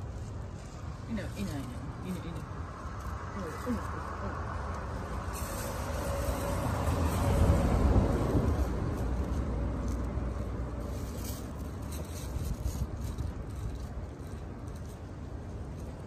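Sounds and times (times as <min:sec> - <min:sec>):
passing road vehicle rumble: 0:00.0 - 0:16.0.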